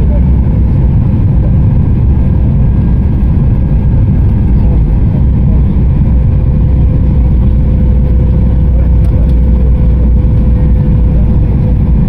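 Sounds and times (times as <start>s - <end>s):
jet engine and airflow rumble: 0.0s - 12.0s.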